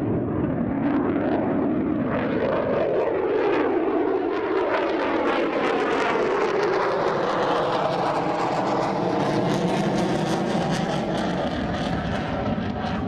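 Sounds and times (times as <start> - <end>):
fighter jet engine rush: 0.0 - 13.0.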